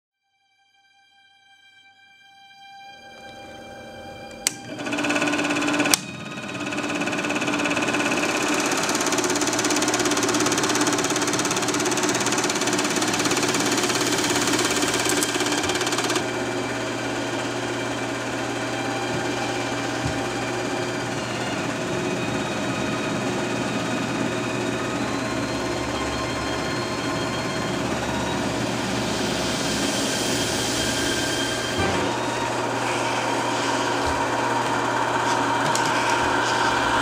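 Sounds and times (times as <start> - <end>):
film projector clattering: 4.4 - 29.6, 31.8 - 37.0.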